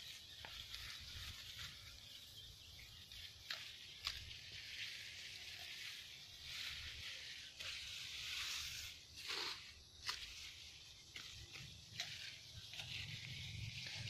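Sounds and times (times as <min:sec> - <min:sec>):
footsteps through rustling grass: 0:00.0 - 0:14.0.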